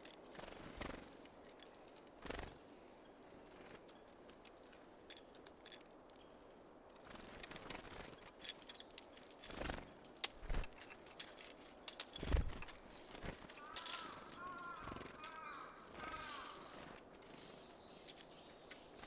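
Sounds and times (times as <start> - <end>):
birds clicking and tapping: 0.0 - 19.0.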